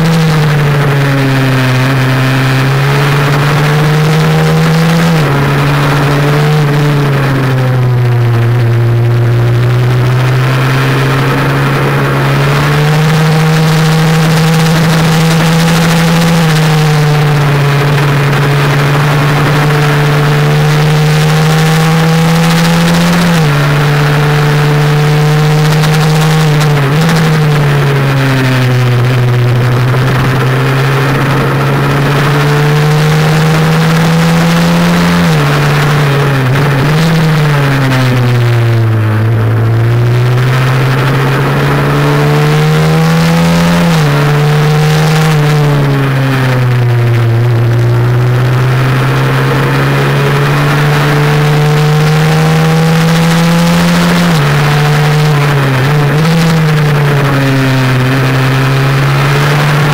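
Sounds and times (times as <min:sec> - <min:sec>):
motorcycle engine revving and shifting: 0:00.0 - 0:59.9.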